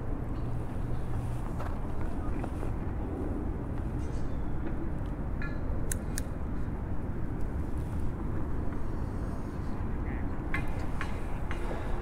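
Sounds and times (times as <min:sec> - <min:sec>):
distant motor traffic: 0:00.0 - 0:12.0.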